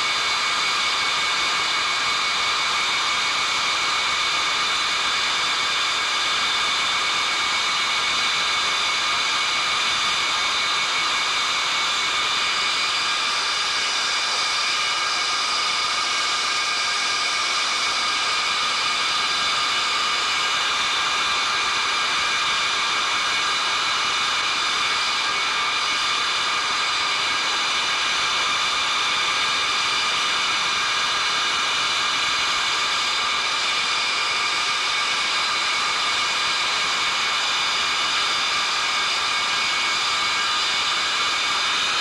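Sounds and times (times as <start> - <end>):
high-pitched engine whine: 0.0 - 42.0.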